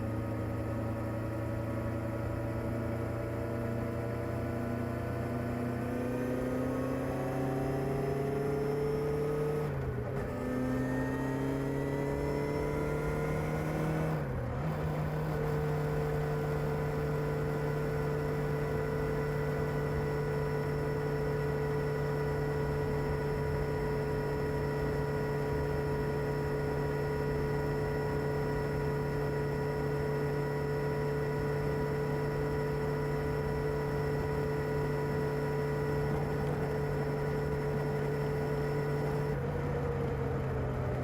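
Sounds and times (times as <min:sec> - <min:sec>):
motorcycle engine humming: 0:00.0 - 0:41.0.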